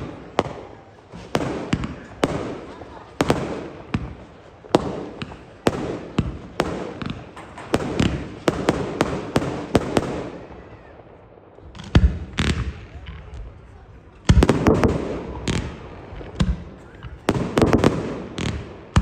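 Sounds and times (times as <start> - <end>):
fireworks bangs and pops: 0.0 - 10.9, 11.5 - 19.0.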